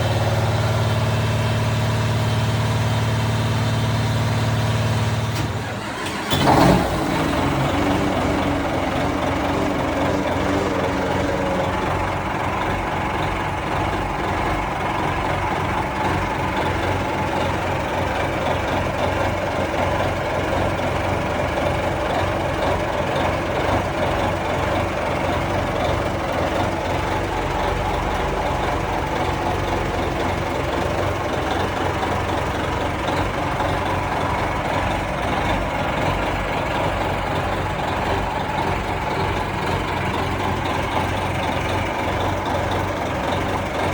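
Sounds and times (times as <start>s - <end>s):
boat diesel engine running: 0.0s - 43.9s.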